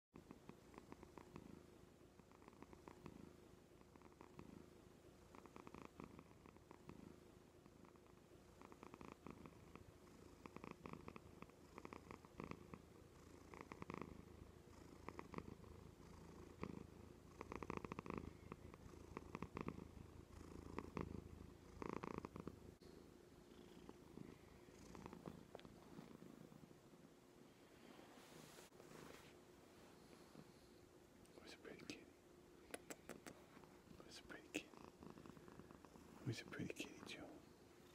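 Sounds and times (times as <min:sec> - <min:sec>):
cat purring: 0:00.2 - 0:37.9.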